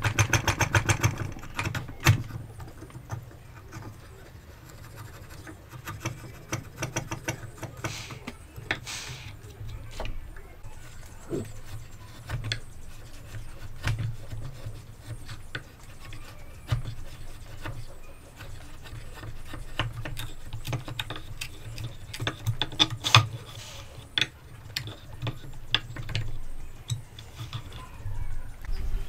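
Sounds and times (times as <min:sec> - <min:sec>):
chisel cutting wood: 0:00.0 - 0:28.7
low steady hum: 0:00.0 - 0:29.0.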